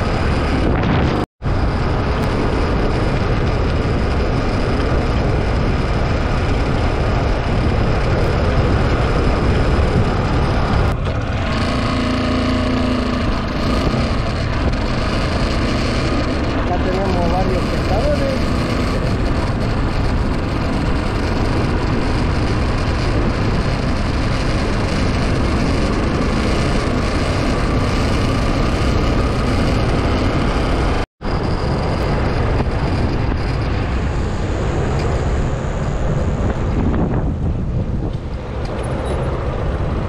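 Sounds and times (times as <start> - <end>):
road and traffic noise: 0.0 - 40.0
wind rumble on microphone: 0.0 - 40.0.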